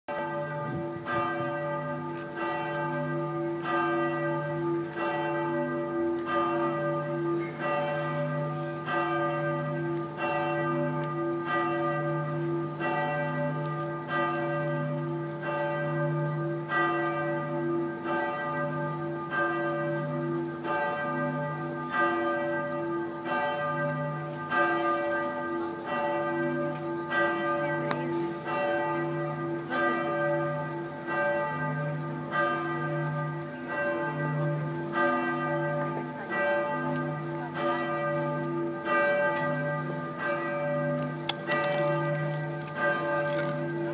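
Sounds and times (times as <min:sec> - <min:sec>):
church bells tolling: 0:00.1 - 0:43.9.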